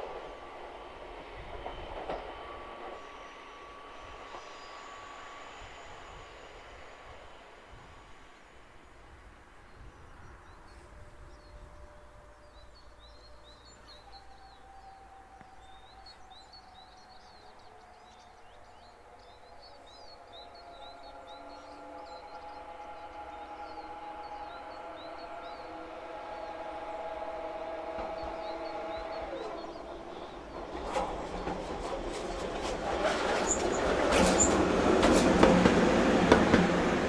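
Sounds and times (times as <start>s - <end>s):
electric locomotive whine: 0.0s - 37.0s.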